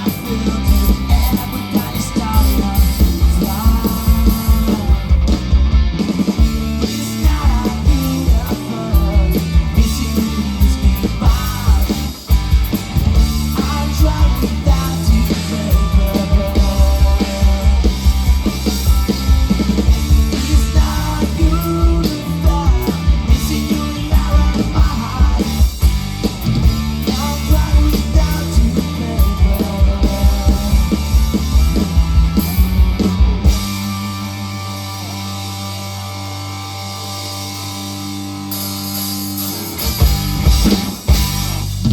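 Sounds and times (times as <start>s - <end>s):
rock band playing: 0.0s - 41.9s.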